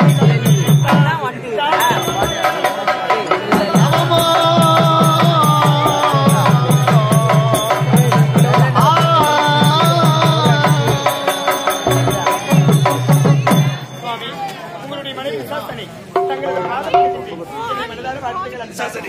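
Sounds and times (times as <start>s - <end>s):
hand drum beat: 0.0s - 14.0s, 16.2s - 17.4s.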